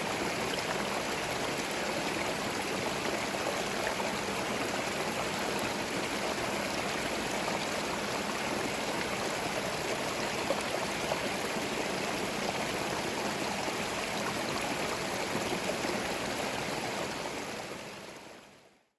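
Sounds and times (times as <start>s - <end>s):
stream flowing: 0.0s - 18.6s.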